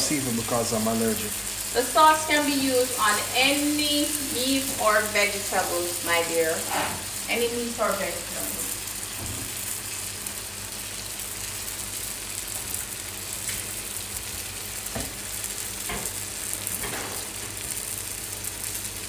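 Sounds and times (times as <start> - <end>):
lobster sizzling on a griddle: 0.0 - 19.0.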